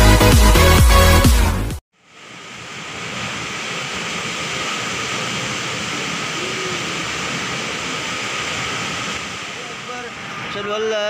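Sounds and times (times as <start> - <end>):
gusting wind: 2.1 - 11.0
heavy rain downpour: 2.1 - 11.0.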